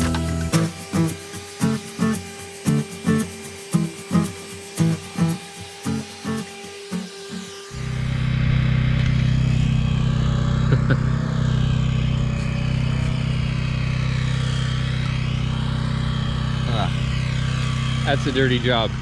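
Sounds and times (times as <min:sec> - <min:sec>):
leaf blower engine running: 0:00.0 - 0:19.0.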